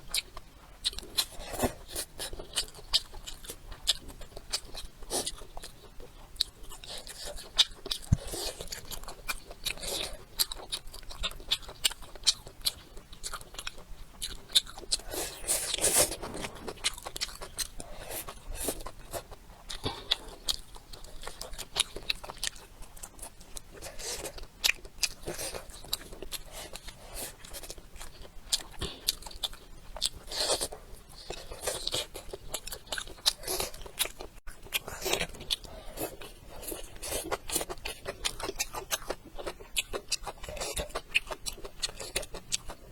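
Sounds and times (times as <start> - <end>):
person chewing and biting: 0.0 - 42.9.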